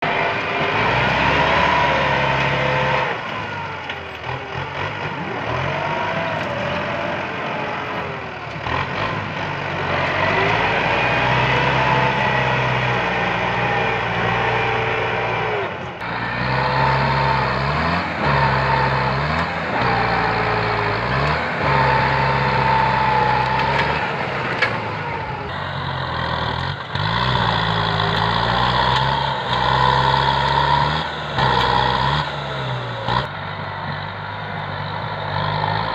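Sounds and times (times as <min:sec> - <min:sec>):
bulldozer diesel engine working: 0:00.0 - 0:35.9.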